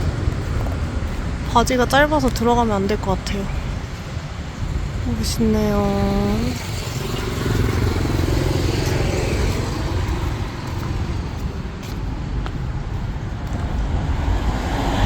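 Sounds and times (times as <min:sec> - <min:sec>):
vehicle engine running: 0:00.0 - 0:14.9
rumble of passing traffic: 0:00.0 - 0:15.0.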